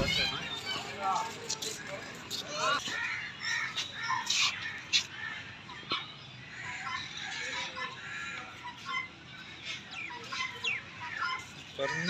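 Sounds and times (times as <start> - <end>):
bird chirps and clucks: 0.0 - 12.0.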